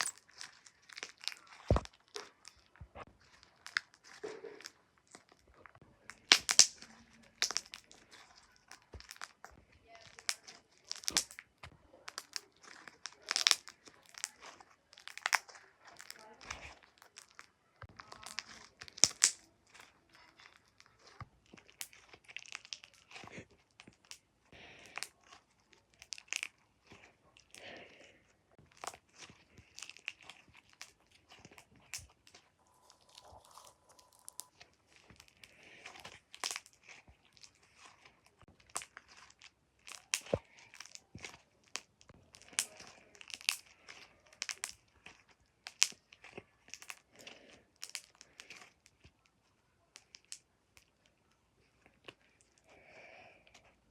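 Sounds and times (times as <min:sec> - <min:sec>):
slime squeezed and popping: 0:00.0 - 0:27.6, 0:28.7 - 0:49.2.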